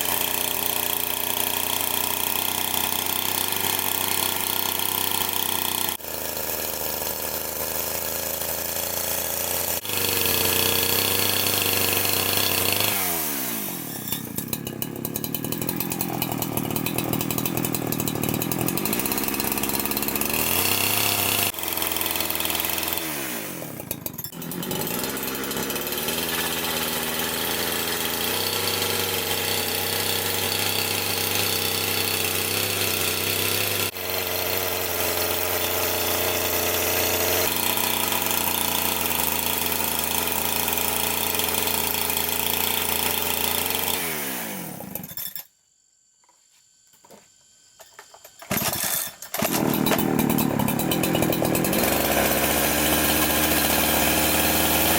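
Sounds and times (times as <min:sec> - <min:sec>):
chainsaw engine running: 0:00.0 - 0:45.4, 0:48.4 - 0:54.9.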